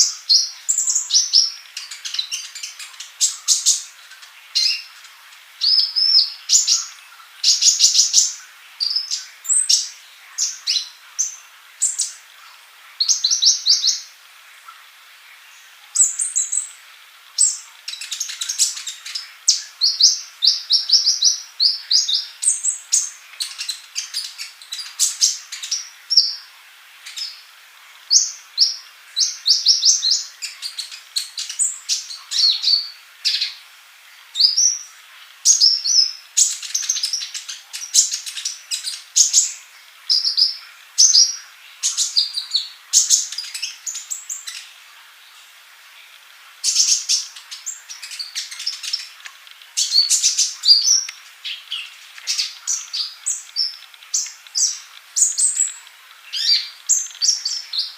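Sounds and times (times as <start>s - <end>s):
sunbird singing high trills: 0.0s - 12.2s, 13.0s - 14.2s, 15.4s - 16.8s, 17.4s - 27.5s, 28.1s - 33.6s, 34.3s - 44.8s, 46.6s - 57.9s.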